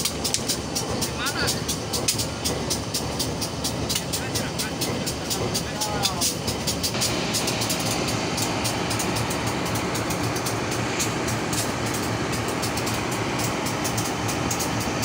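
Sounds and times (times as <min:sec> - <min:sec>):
diesel locomotive idling: 0:00.0 - 0:15.0
fast irregular clicking: 0:00.0 - 0:15.0.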